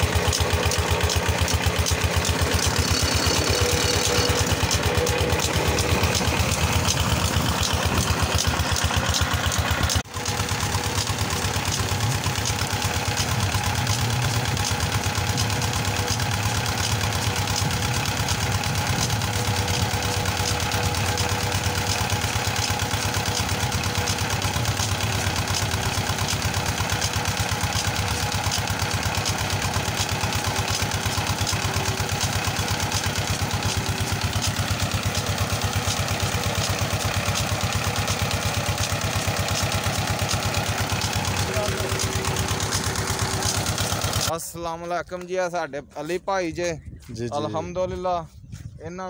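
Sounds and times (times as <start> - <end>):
small diesel engine running: 0.0 - 46.6.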